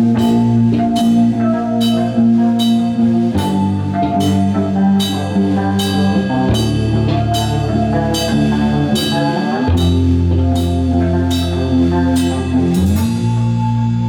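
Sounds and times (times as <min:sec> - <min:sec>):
cymbal crashes: 0:00.0 - 0:13.7
metal band playing: 0:00.0 - 0:14.0.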